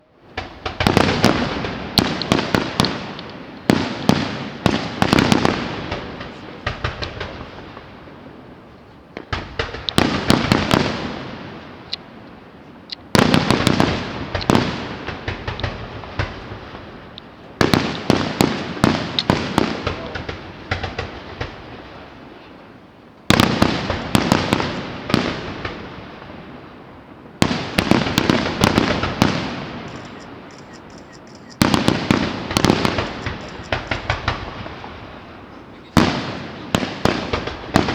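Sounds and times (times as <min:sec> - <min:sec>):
fireworks bursting: 0:00.0 - 0:37.9.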